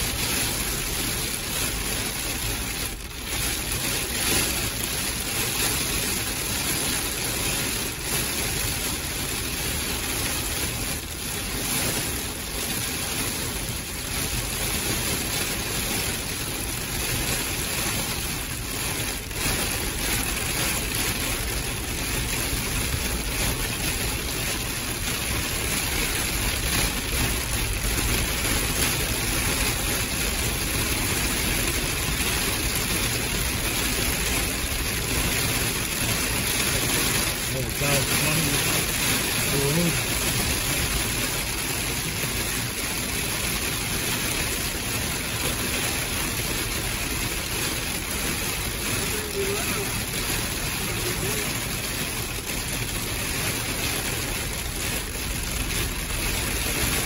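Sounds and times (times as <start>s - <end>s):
heavy rain on vehicle: 0.0s - 57.0s.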